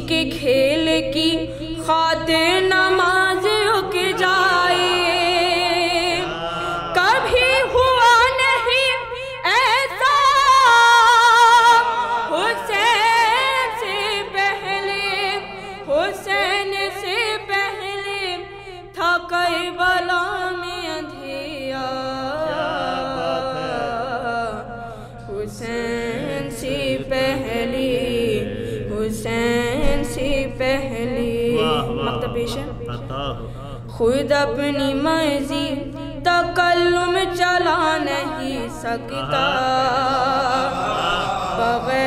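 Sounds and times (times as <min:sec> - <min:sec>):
person singing devotional song: 0:00.0 - 0:42.0.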